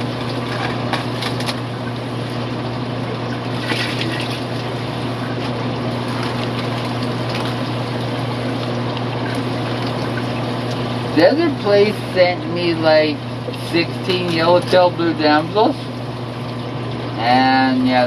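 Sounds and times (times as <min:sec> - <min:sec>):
water pumps humming: 0:00.0 - 0:18.0
water trickling: 0:00.0 - 0:18.0.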